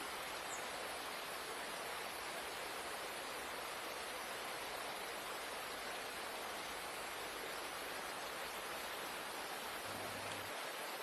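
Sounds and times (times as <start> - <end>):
waterfall splashing over rocks: 0.0 - 11.0.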